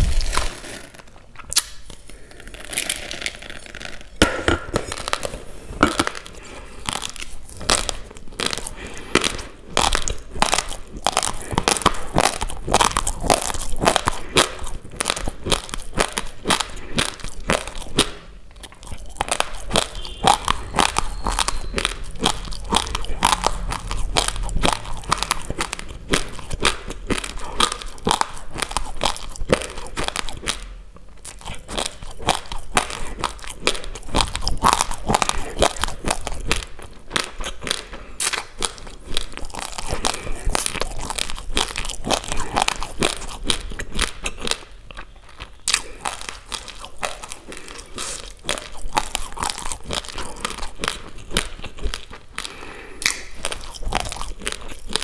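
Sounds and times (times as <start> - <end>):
person chewing crunchy rice: 0.0 - 55.0.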